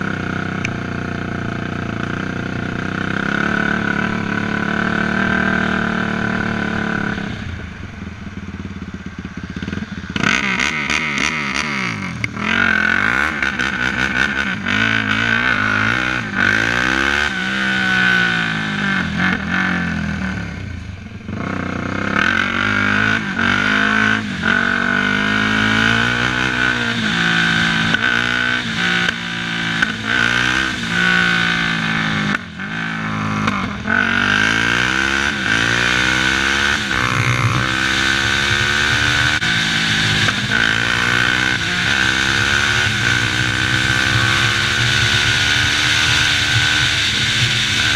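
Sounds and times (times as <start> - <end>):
quad engine revving: 0.0 - 7.6, 9.5 - 20.7, 21.3 - 47.9.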